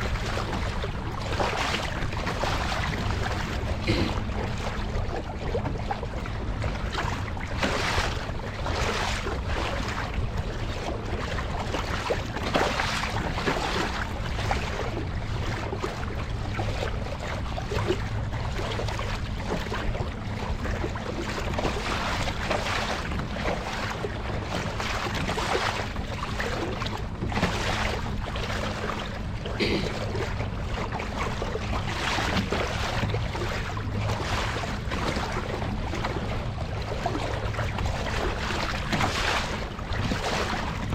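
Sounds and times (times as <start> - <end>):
paddle splashing in water: 0.0 - 40.9
water lapping at hull: 0.0 - 40.9.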